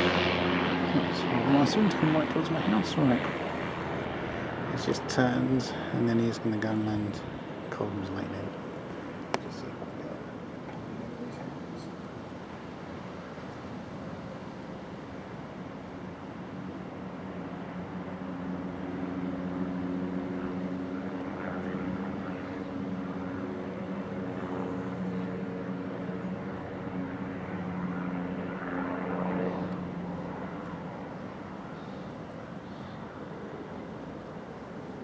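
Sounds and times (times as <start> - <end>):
turboprop plane droning: 0.0 - 35.0.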